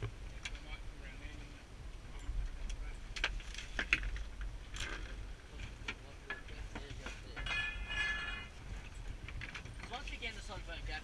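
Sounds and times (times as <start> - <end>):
low wind rumble: 0.0 - 11.0.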